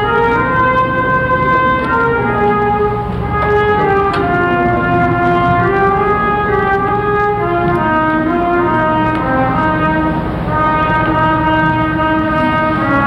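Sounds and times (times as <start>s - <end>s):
slow brassy held chords: 0.0s - 13.0s.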